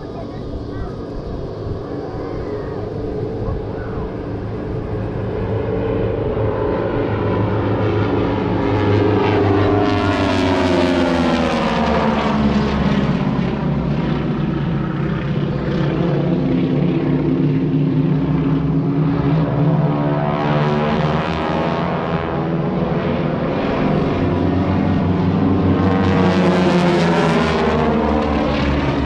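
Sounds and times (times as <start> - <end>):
propeller planes droning overhead: 0.0 - 29.0.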